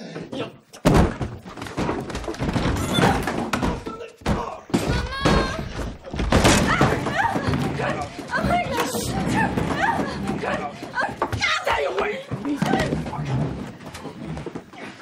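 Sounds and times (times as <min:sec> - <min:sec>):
strained voices: 0:02.6 - 0:15.0.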